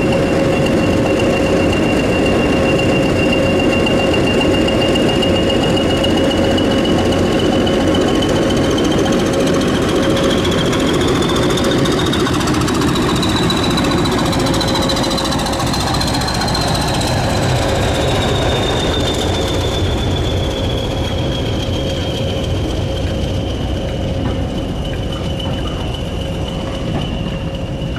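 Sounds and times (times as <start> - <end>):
diesel locomotive engine running: 0.0 - 27.9
high whine: 0.0 - 27.9.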